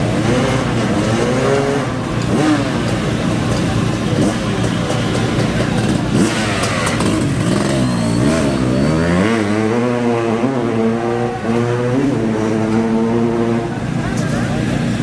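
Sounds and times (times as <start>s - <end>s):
racing engine revving: 0.0s - 15.0s.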